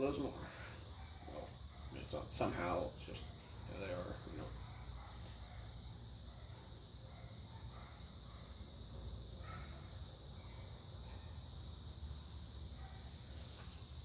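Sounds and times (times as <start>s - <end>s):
ceiling fan motor hum: 0.0s - 14.0s
constant high hiss: 0.0s - 14.0s.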